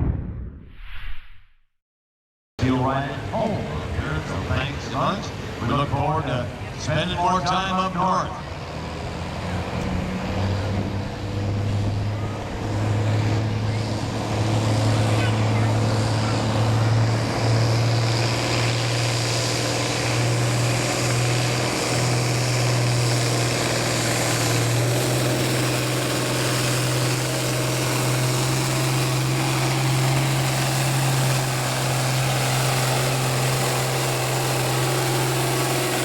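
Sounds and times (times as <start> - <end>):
tractor engine running steadily: 2.6 - 36.0.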